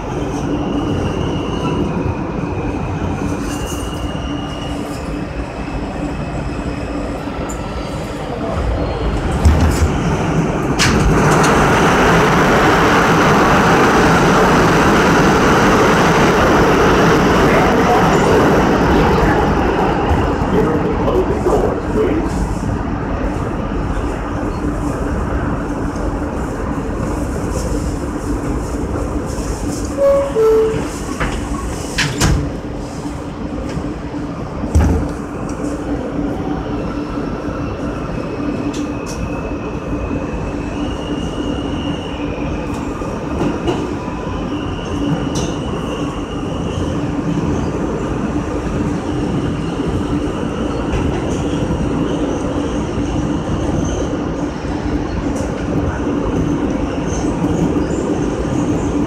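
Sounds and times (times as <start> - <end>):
subway train motor hum: 4.8 - 59.0.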